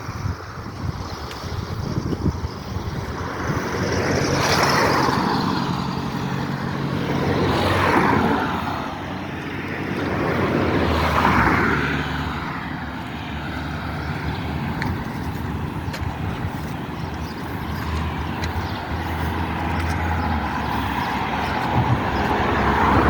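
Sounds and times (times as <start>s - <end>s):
low traffic hum: 0.0s - 23.0s
vehicles passing: 0.0s - 23.0s.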